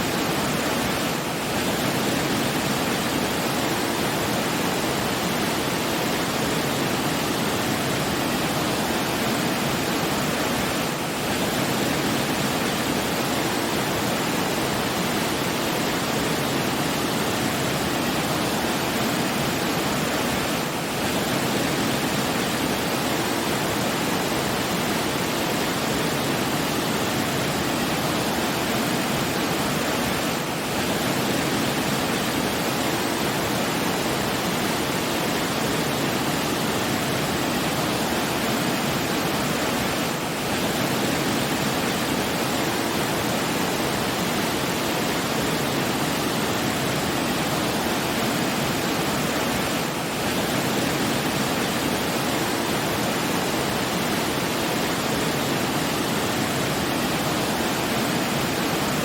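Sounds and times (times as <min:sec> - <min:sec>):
falling water rushing: 0:00.0 - 0:59.0.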